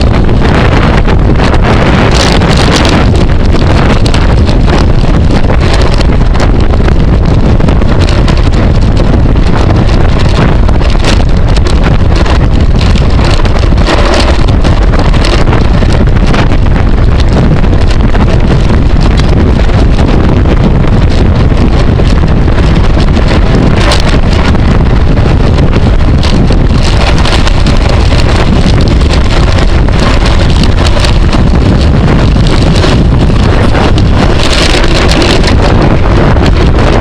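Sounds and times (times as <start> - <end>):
wind buffeting a microphone: 0.0 - 37.0.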